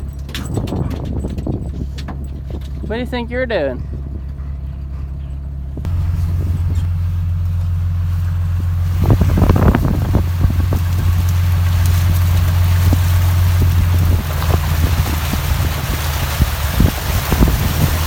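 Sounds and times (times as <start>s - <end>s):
rattling: 0.0s - 18.0s
truck engine droning: 0.0s - 18.0s.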